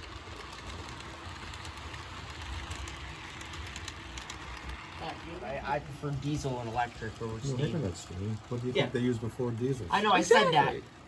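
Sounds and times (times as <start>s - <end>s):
model train rumbling: 0.0s - 11.0s
wheels clicking on rails: 0.0s - 11.0s.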